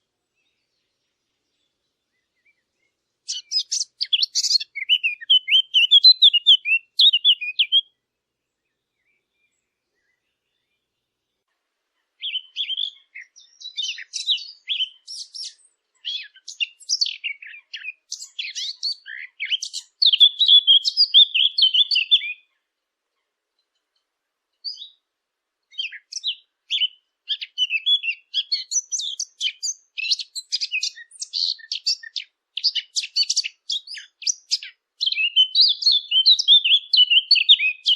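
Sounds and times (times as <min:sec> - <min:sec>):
birds chirping and twittering: 0:00.0 - 0:37.9.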